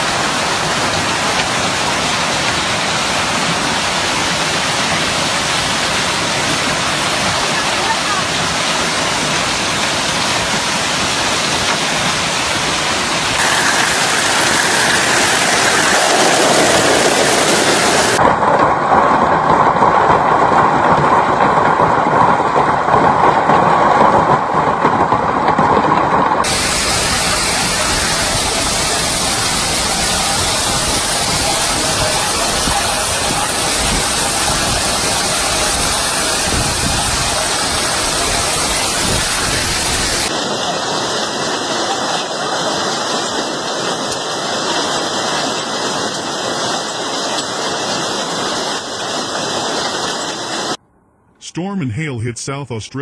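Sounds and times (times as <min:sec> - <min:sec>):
hail and heavy rain pelting: 0:00.0 - 0:50.8.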